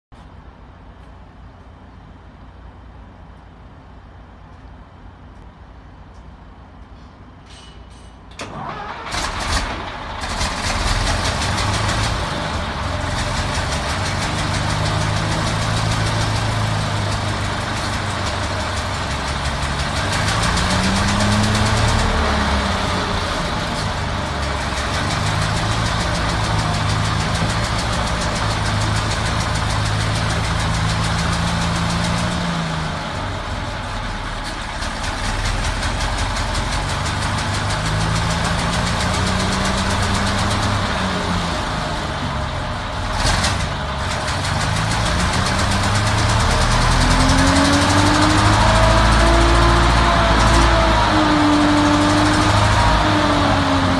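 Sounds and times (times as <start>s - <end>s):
petrol engine starting and idling: 0.2s - 53.9s.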